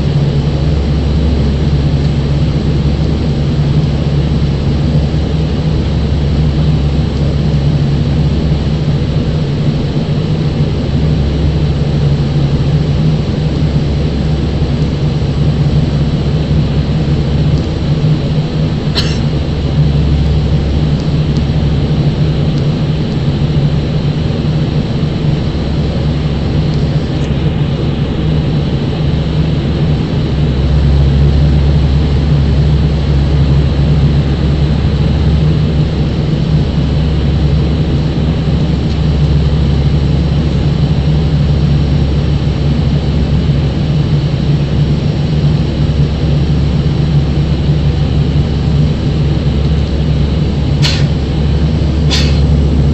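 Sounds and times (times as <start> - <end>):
airliner engine drone in cabin: 0.0 - 52.9.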